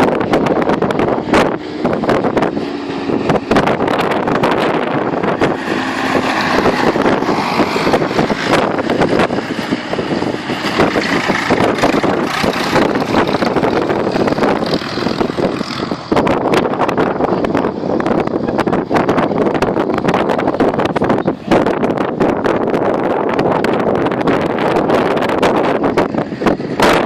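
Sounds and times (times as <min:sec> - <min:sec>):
tractor engines running: 0:00.0 - 0:27.0
wind buffeting microphone: 0:00.0 - 0:27.0.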